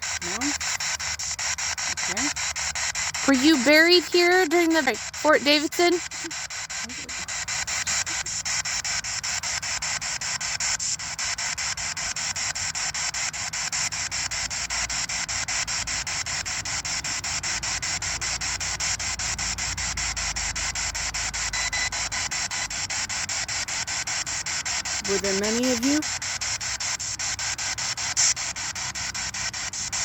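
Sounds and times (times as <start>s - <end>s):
pulsing radio static: 0.0s - 30.0s.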